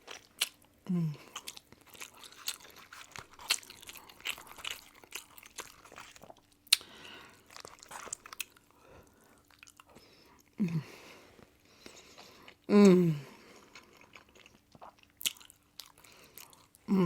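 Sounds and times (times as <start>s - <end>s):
person chewing crusty bread: 0.0s - 16.9s.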